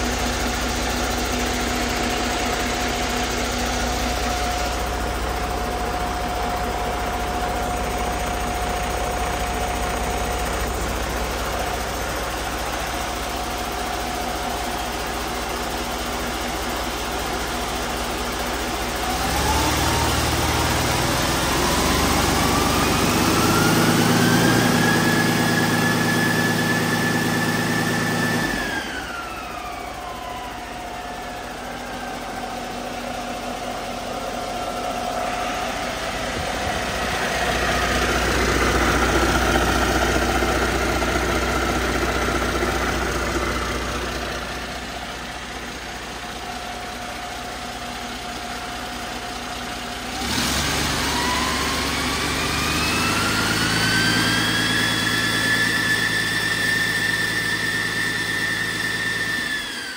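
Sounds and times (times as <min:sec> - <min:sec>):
diesel engine revving and idling: 0:00.0 - 0:59.9.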